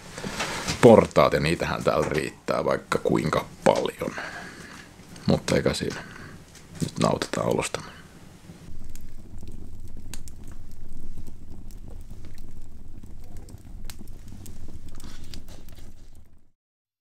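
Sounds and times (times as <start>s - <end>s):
logs popping and crackling: 0.0s - 16.5s
low rumble of flames: 0.0s - 16.6s.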